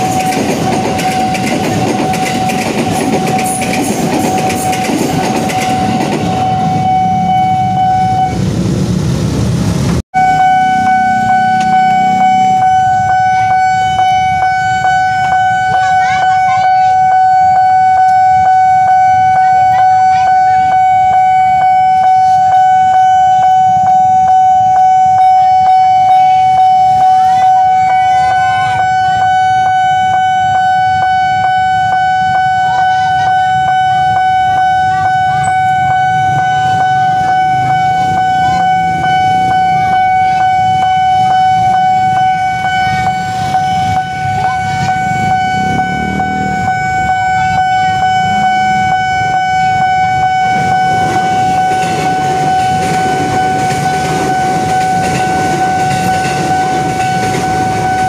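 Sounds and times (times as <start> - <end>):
level crossing warning bell: 0.0 - 8.5, 10.2 - 58.0.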